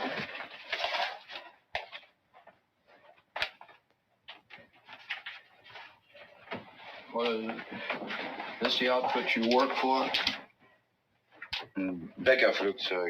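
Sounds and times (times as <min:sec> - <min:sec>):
rustling: 0:00.0 - 0:11.8.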